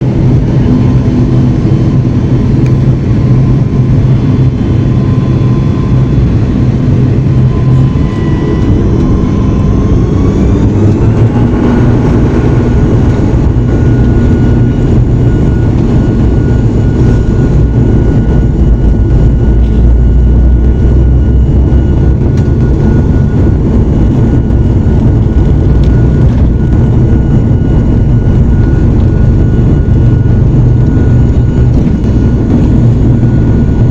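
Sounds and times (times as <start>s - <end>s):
turboprop engines droning: 0.0s - 33.9s.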